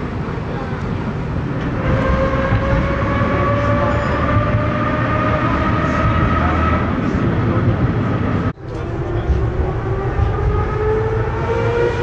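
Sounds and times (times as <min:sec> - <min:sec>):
tram motors whining: 0:00.0 - 0:12.0
wheels rumbling on track: 0:00.0 - 0:12.0.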